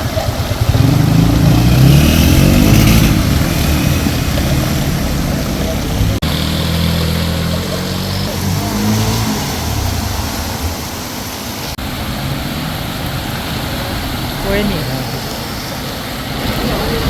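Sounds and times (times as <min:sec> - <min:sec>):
heavy rain pouring: 0:00.0 - 0:17.0
vehicle engine running: 0:00.0 - 0:17.0.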